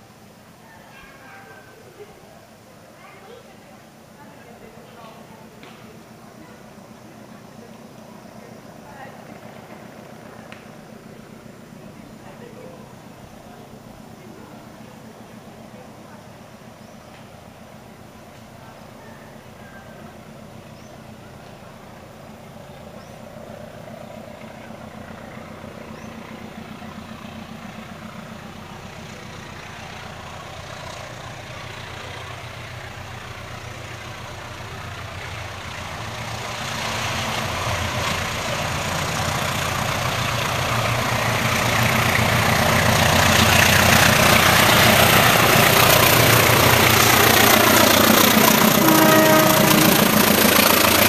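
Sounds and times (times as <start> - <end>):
locomotive engine rumble: 0.0 - 51.0
wheels on rails: 3.1 - 51.0.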